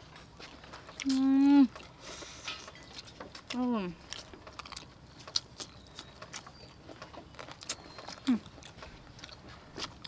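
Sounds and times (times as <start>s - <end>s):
sucking and chewing: 0.0s - 10.0s.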